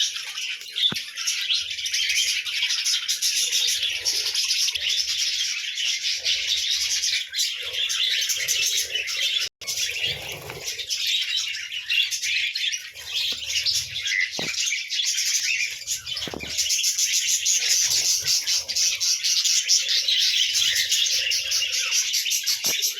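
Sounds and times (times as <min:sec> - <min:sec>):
budgerigars chattering and chirping: 0:00.0 - 0:22.9.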